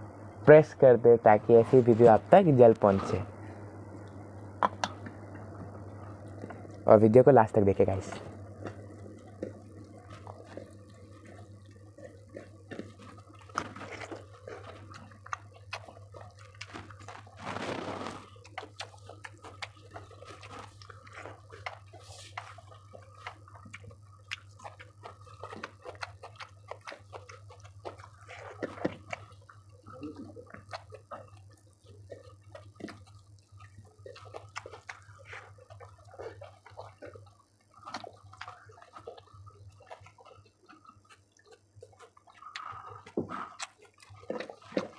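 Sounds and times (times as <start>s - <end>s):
steady low hum: 0.0s - 44.9s
wet chewing and smacking: 0.5s - 44.9s.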